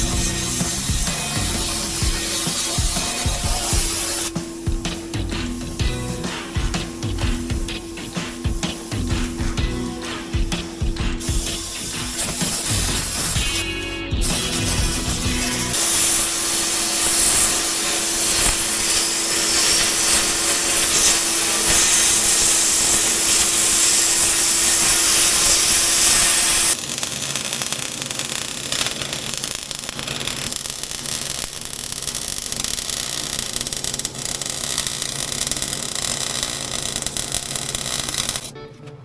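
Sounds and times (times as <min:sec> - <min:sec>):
power tool working steel: 0:00.0 - 0:38.6.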